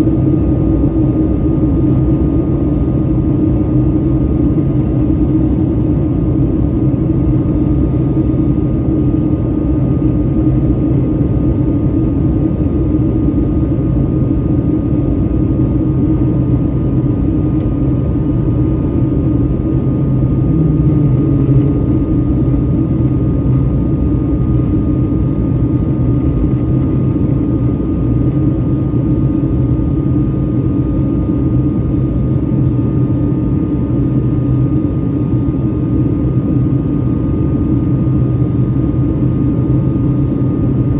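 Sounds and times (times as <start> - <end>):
airliner cabin engine drone: 0.0 - 40.9.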